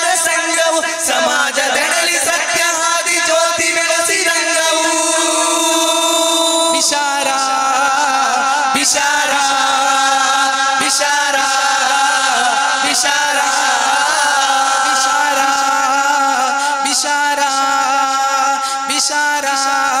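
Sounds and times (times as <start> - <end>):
young men singing together: 0.0 - 20.0.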